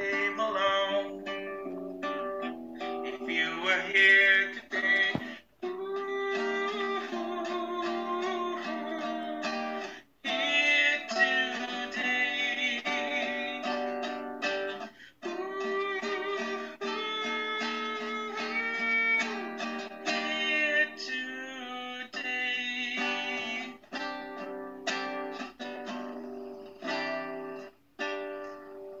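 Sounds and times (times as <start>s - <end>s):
man singing: 0.0s - 1.6s, 2.8s - 24.5s
acoustic guitar strumming: 0.0s - 29.0s.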